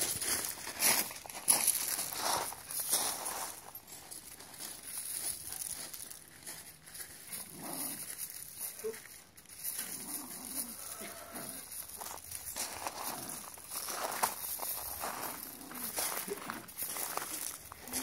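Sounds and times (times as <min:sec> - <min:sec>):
gravel crunching: 0:00.0 - 0:18.0.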